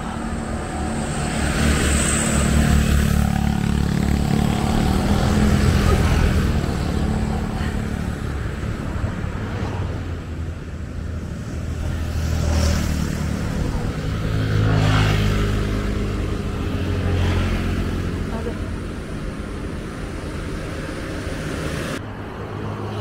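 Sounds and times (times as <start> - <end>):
vehicle engines running: 0.0 - 22.1
vehicles passing by: 0.0 - 23.0.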